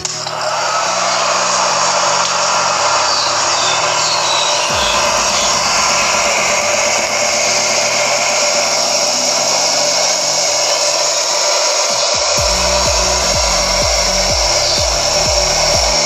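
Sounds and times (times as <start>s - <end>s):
cooling fan whirring: 0.0s - 16.0s
electronic dance music: 0.0s - 16.0s.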